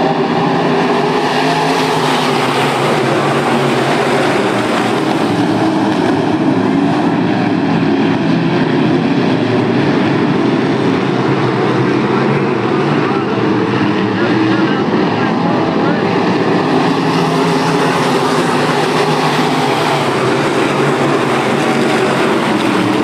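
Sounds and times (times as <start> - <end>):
racing car engines: 0.0 - 23.0.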